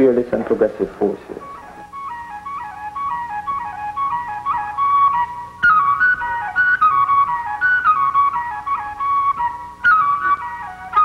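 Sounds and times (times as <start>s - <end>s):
wind instrument melody: 1.3s - 11.0s.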